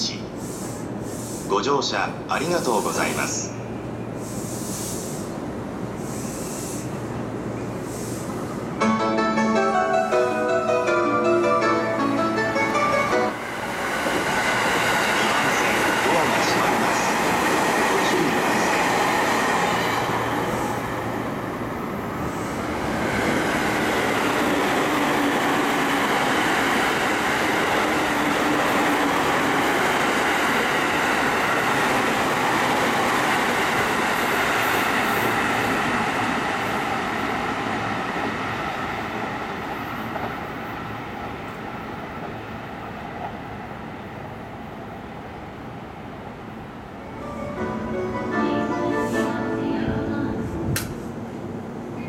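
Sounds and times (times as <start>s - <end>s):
trains passing at speed: 0.0s - 52.0s.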